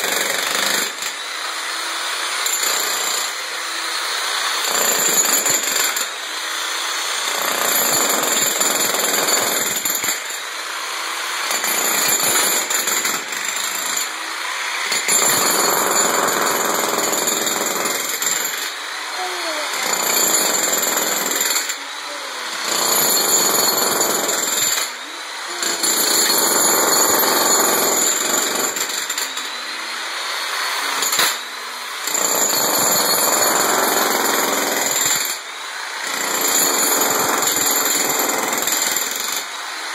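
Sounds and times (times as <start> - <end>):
demolition hammer breaking concrete: 0.0 - 39.9.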